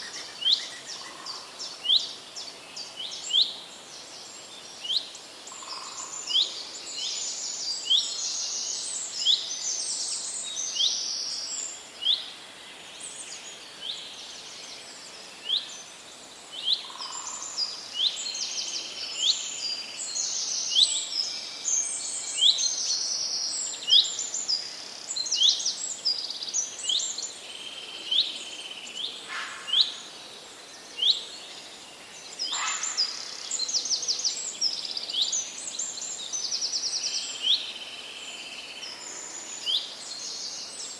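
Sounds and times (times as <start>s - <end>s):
faint background hiss: 0.0s - 40.9s
songbirds singing: 0.0s - 40.9s.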